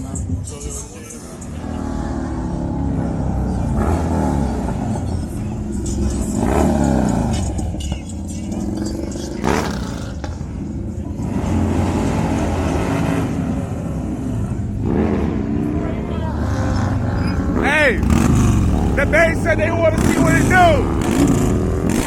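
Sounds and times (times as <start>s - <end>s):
crowd voices: 0.0s - 11.7s, 14.5s - 22.0s
motorcycle engines revving: 0.0s - 22.0s.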